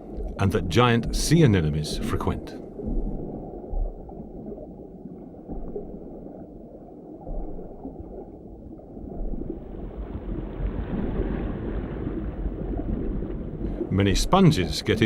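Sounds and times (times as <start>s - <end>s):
muffled underwater rumble: 0.0s - 15.0s.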